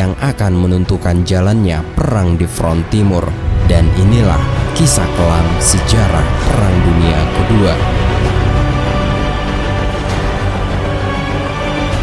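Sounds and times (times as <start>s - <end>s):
music with long held notes: 0.0s - 12.0s
deep bass: 1.8s - 12.0s.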